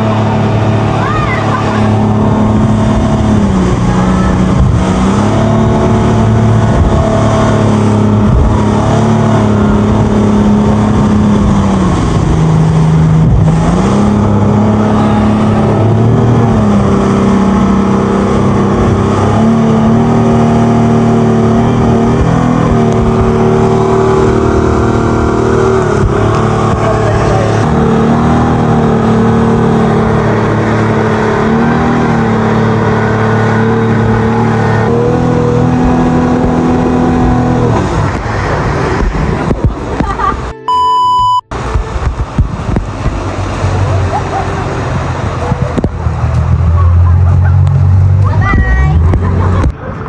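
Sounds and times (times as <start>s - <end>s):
outboard motor running hard: 0.0s - 40.6s, 41.5s - 50.0s
rushing water and wind: 0.0s - 50.0s.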